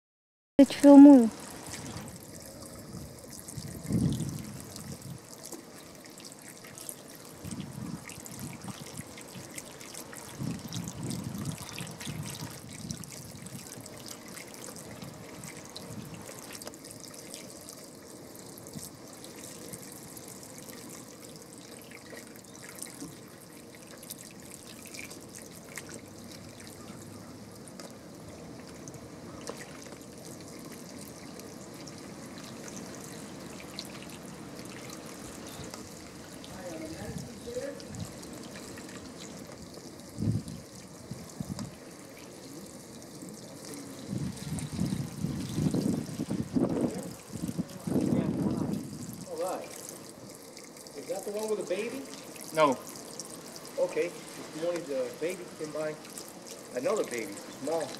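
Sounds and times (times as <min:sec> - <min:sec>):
water trickling and swirling: 0:00.6 - 0:57.9.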